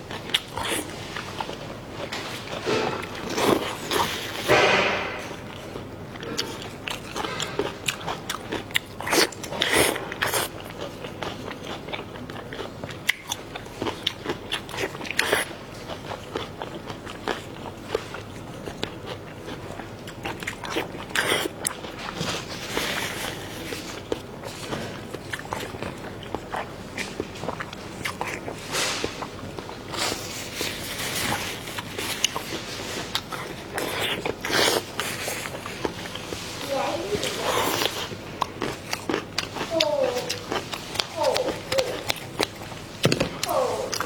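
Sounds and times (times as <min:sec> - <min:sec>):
person chewing food: 0:00.0 - 0:44.0.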